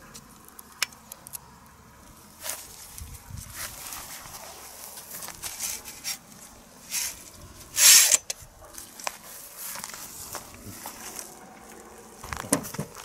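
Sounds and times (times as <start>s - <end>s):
grass rustling and crunching: 0.0s - 13.0s.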